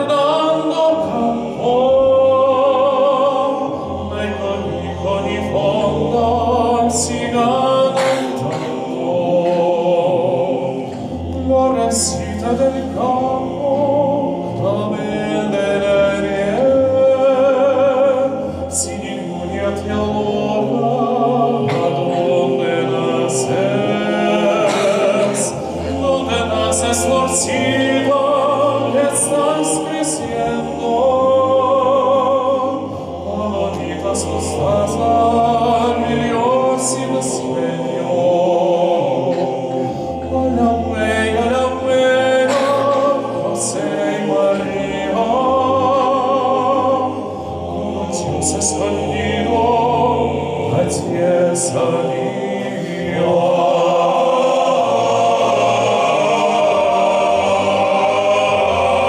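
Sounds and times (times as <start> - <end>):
male solo voice singing: 0.0 - 59.0
men's choir singing: 0.0 - 59.0.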